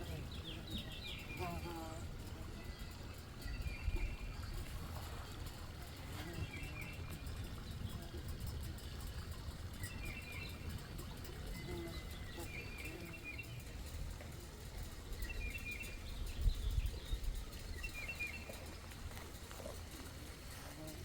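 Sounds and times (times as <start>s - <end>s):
songbird singing: 0.0s - 21.0s
wind rumble on microphone: 0.0s - 21.0s.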